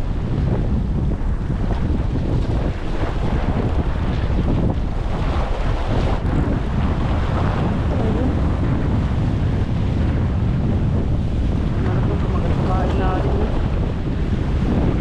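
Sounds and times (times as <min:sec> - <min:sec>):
shallow sea water washing: 0:00.0 - 0:15.0
wind rumbling on microphone: 0:00.0 - 0:15.0.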